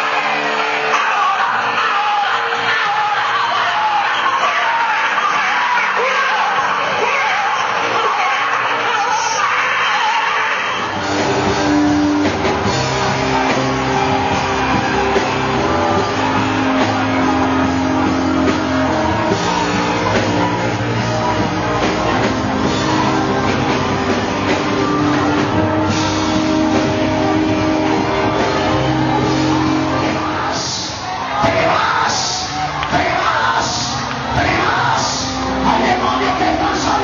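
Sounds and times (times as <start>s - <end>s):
rock band music: 0.0s - 37.0s.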